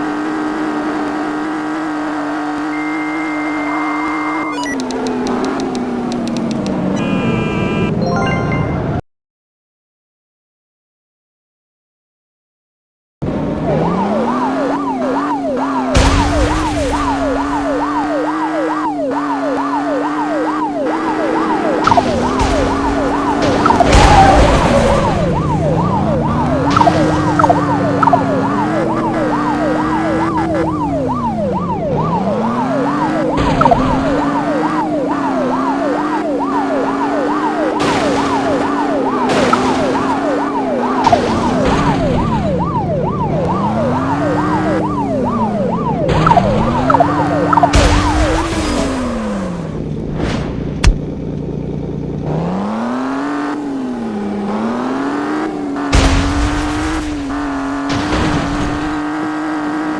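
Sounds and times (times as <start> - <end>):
police sirens yelping and wailing: 0.0 - 9.0, 13.2 - 50.0, 50.9 - 59.9
vehicle road noise: 0.0 - 9.0, 13.2 - 59.9.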